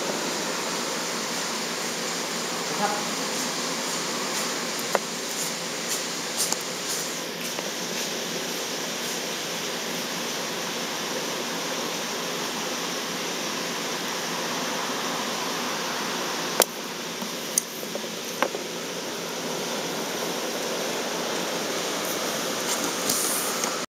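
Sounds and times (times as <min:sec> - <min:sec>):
room noise hiss: 0:00.0 - 0:23.9.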